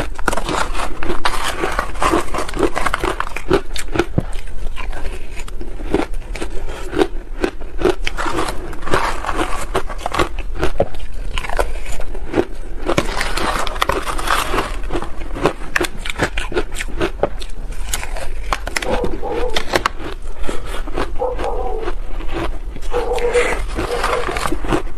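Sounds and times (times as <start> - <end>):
chewing crunchy shaved ice: 0.0 - 24.9.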